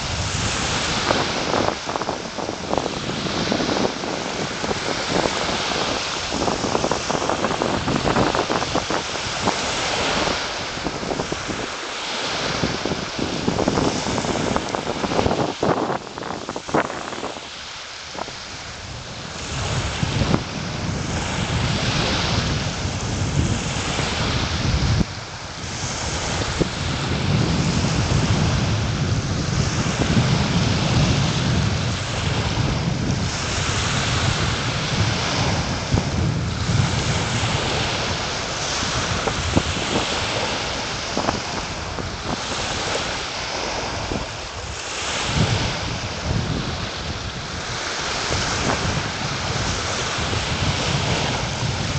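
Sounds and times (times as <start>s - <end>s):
small waves breaking on beach: 0.0s - 51.9s
wind on microphone: 0.0s - 51.9s.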